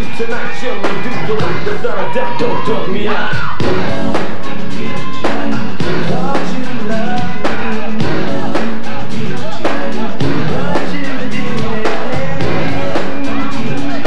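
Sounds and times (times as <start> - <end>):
person singing: 0.0 - 14.0
steady drum beat: 0.0 - 14.0
up-tempo dance music: 0.0 - 14.0.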